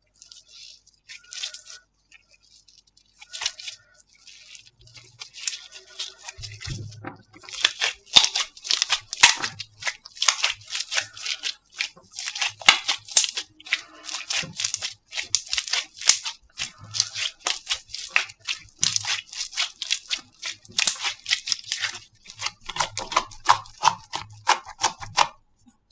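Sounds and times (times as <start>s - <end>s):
slime squeezed with wet pops: 0.2s - 25.4s.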